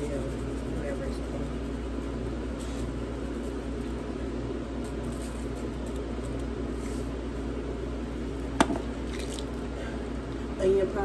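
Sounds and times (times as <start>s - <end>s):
low hum of kitchen room noise: 0.0s - 11.0s.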